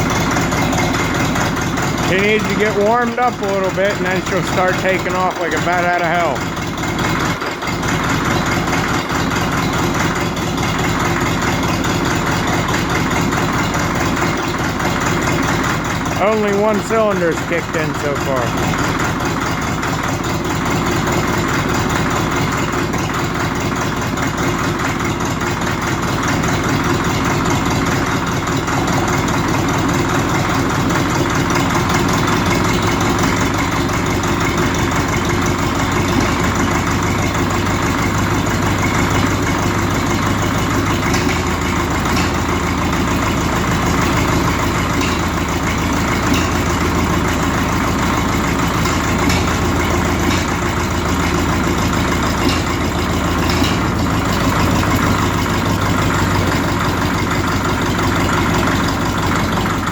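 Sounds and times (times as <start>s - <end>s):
diesel engine idling rough: 0.0s - 59.9s.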